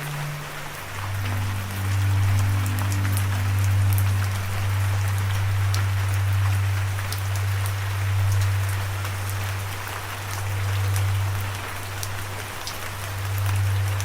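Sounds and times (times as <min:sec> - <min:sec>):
low hum: 0:00.0 - 0:14.0
steady rain hissing: 0:00.0 - 0:14.0.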